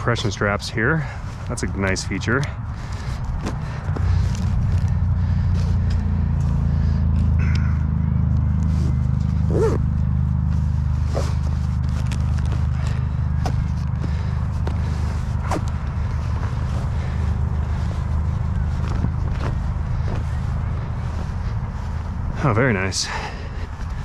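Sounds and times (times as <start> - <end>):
steady low rumble: 0.0 - 24.0
straps and buckles clicking: 1.2 - 9.9, 10.6 - 22.0.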